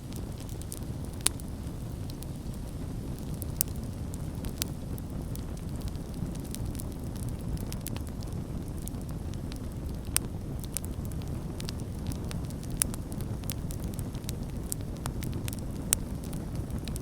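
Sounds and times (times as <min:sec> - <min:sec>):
campfire low rumble: 0:00.0 - 0:17.0
wood crackling and popping: 0:00.0 - 0:17.0.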